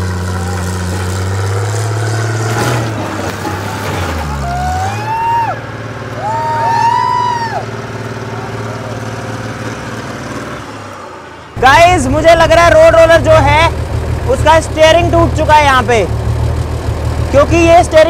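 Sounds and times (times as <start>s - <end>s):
road roller diesel engine: 0.0s - 18.0s.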